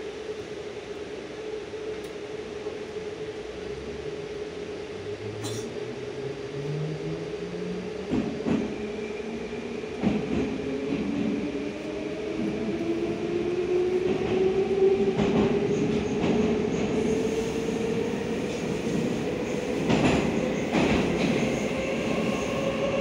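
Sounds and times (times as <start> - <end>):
train interior hum: 0.0 - 23.0.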